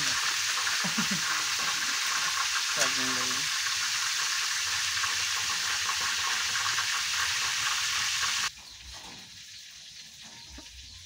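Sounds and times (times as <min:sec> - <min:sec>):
frying in hot oil sizzling: 0:00.0 - 0:11.0.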